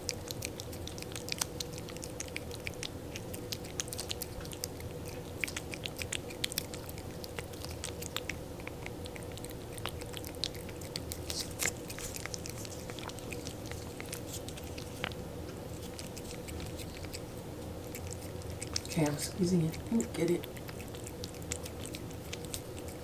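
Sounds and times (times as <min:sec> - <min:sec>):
cat licking wet lapping: 0:00.0 - 0:15.2, 0:15.8 - 0:19.0, 0:19.7 - 0:23.0.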